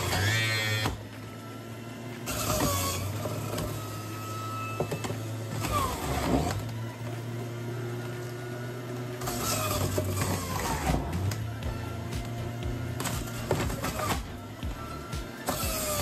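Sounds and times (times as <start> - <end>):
juicer motor humming: 0.0 - 16.0.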